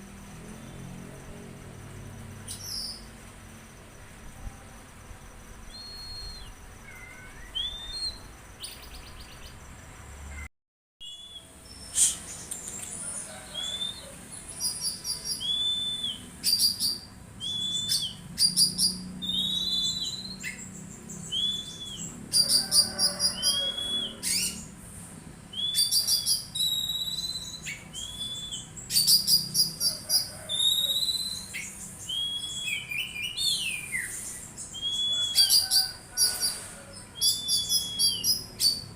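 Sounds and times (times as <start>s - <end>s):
songbird whistling and chirping: 2.4s - 3.1s, 5.6s - 9.5s, 11.0s - 24.7s, 25.5s - 38.9s.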